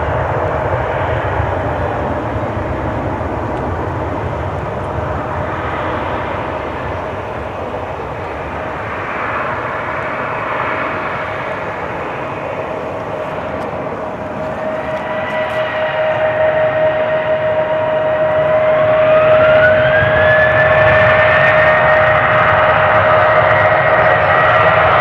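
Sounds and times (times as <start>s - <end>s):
jet engine roar with whine: 0.0s - 25.0s.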